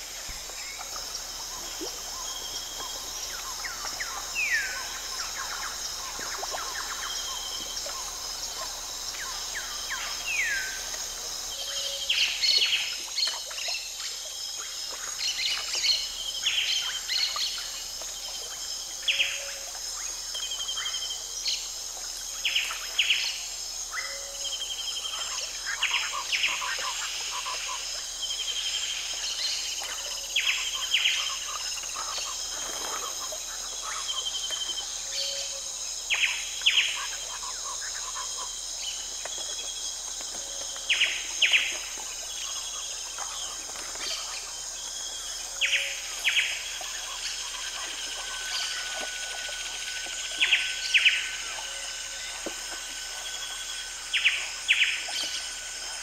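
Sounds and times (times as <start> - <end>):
high insect drone: 0.0 - 56.0.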